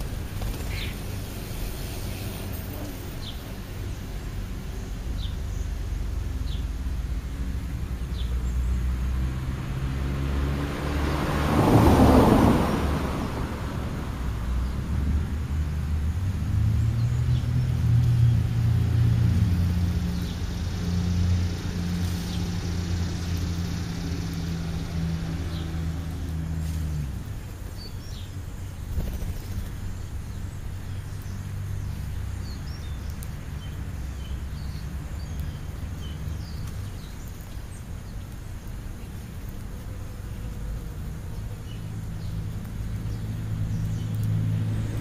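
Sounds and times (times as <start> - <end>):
vehicle engine humming: 0.0 - 45.0.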